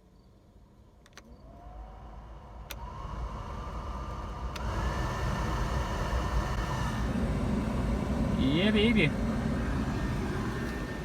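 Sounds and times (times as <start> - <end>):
blower fan whine and air rush: 1.3 - 11.0.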